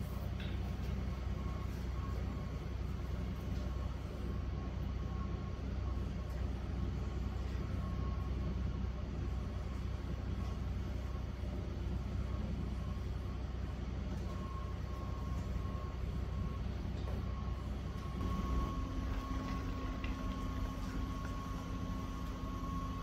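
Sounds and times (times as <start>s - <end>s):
low mechanical hum: 0.0s - 23.0s
lower steady tone: 0.0s - 23.0s
thin steady whine: 0.0s - 23.0s.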